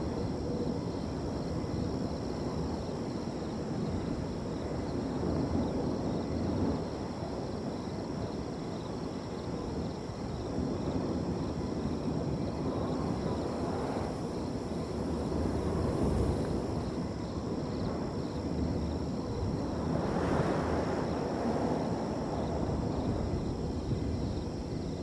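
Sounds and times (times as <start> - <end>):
crickets trilling: 0.0 - 25.0
wind gusting through a field: 0.0 - 25.0.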